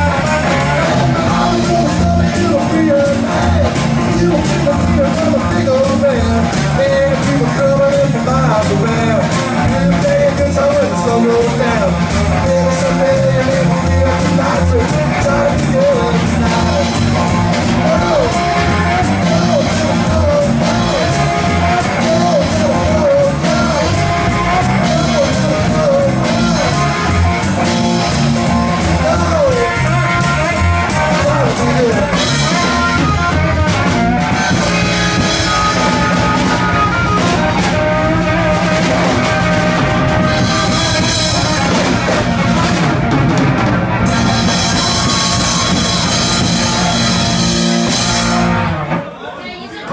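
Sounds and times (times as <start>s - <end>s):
electric guitar lead lines: 0.0s - 49.0s
rock band playing: 0.0s - 49.2s.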